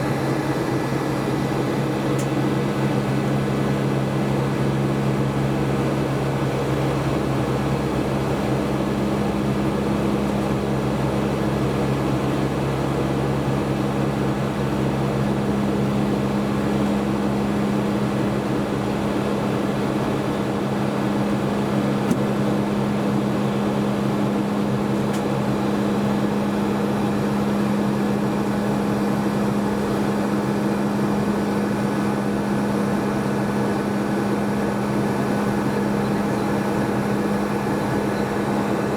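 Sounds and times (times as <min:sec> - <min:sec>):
jet engines humming: 0:00.0 - 0:38.9.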